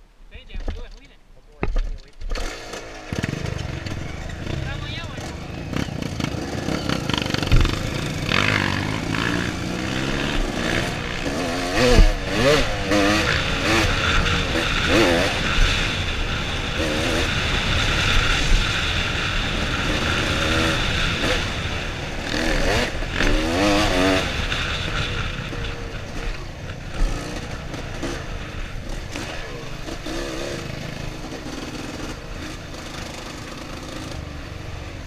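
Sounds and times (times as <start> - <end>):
dirt bike engine revving: 2.2 - 35.0.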